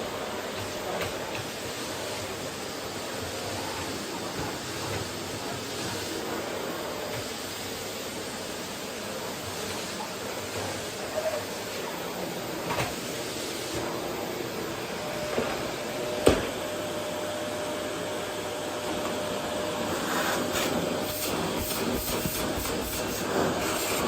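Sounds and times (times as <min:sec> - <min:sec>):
vacuum cleaner on wooden floor: 0:00.0 - 0:24.0.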